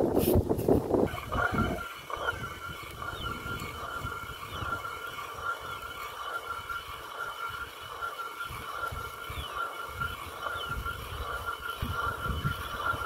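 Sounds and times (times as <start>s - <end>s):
millstone grinding grain: 0.4s - 13.0s
steady high drone: 1.0s - 13.0s.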